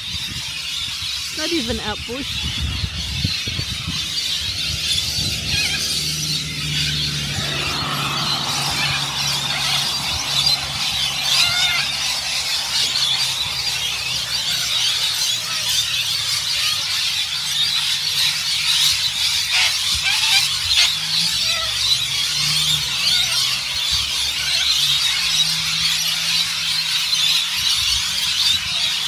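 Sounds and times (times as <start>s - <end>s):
flock of birds screeching: 0.0s - 29.0s.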